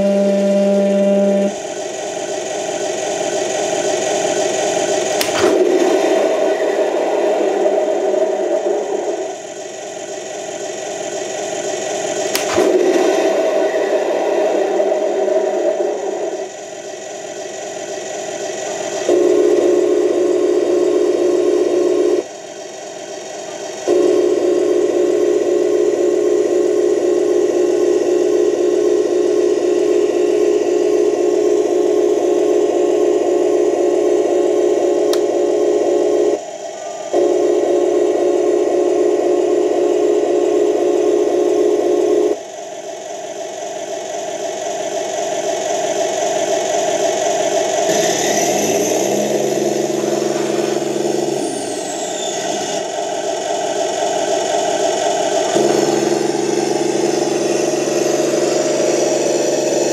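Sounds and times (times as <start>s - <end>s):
model tank engine sound: 0.0s - 59.9s
turret electric whine: 0.0s - 59.9s.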